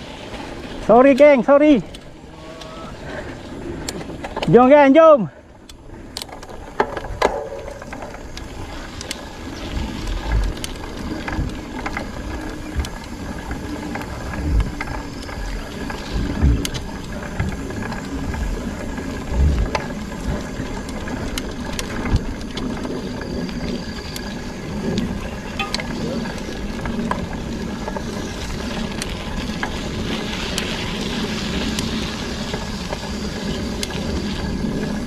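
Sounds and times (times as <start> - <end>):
bike ratcheting clicks and rattles: 3.8 - 4.8, 5.4 - 35.0.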